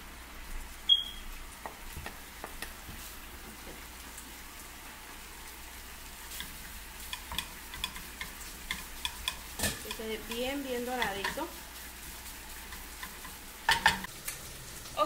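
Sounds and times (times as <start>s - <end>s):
bacon sizzling in a pan: 0.0s - 15.0s.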